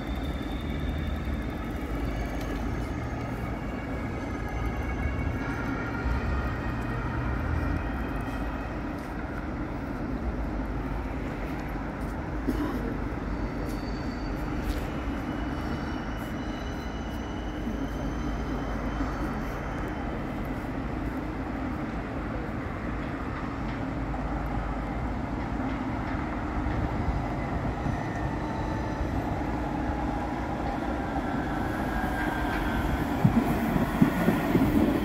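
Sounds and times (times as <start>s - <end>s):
city traffic: 0.0s - 35.0s
tram rumble: 0.0s - 35.0s.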